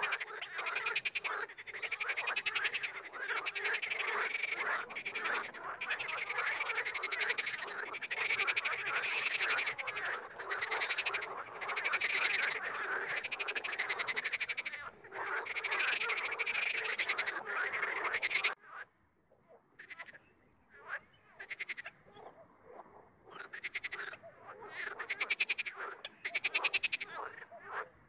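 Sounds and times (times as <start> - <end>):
frogs croaking: 0.0 - 28.0.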